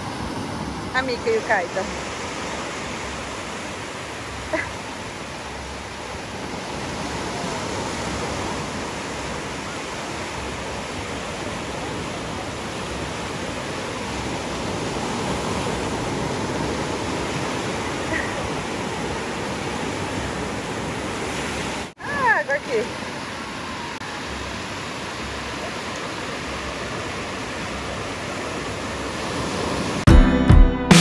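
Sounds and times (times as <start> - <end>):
surf breaking on beach: 0.0 - 30.1.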